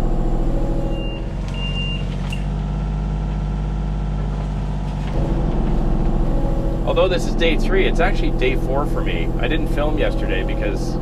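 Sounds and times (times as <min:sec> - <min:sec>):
diesel excavator engine running: 0:00.0 - 0:11.0.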